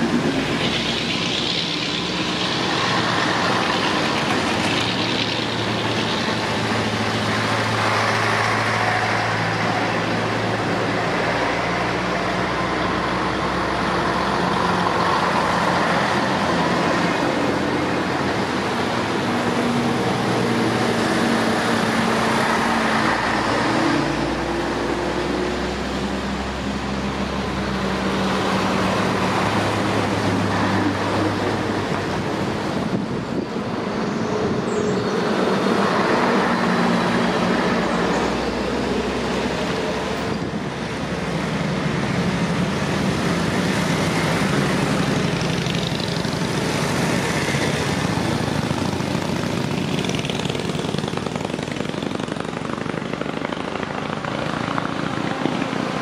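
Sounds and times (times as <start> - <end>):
motorcycle approaching: 0.0 - 33.5, 34.1 - 56.0
diesel trucks driving past: 0.0 - 56.0.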